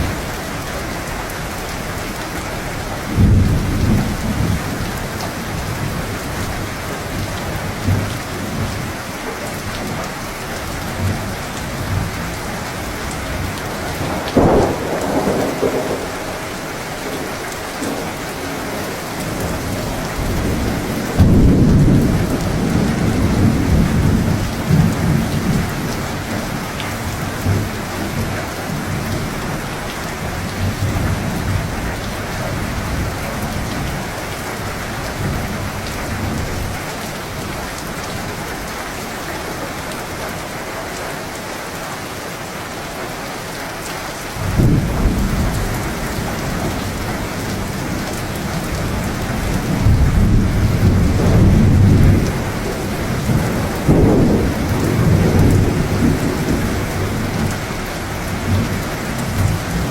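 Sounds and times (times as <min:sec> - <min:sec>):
thunder rumbling: 0:00.0 - 0:09.0, 0:10.6 - 0:38.7, 0:44.4 - 0:59.9
heavy rain: 0:00.0 - 0:59.9.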